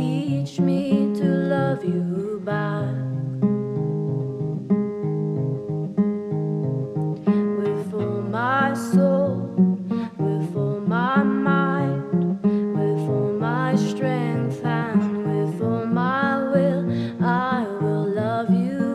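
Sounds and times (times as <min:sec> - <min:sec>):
acoustic guitar playing: 0:00.0 - 0:18.9.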